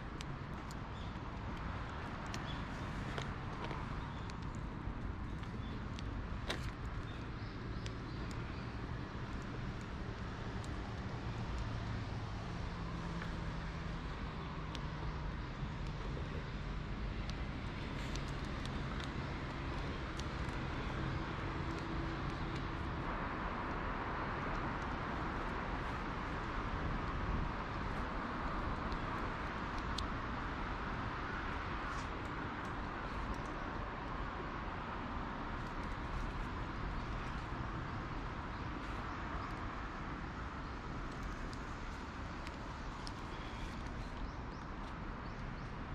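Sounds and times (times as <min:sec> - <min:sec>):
distant road traffic: 0:00.0 - 0:45.9.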